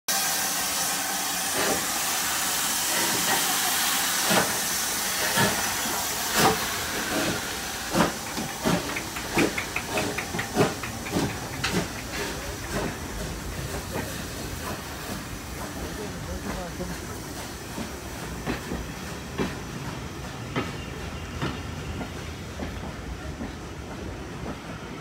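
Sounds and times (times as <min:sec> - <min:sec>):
steam hissing: 0:00.1 - 0:25.0
steam locomotive exhaust chuffs: 0:00.1 - 0:25.0.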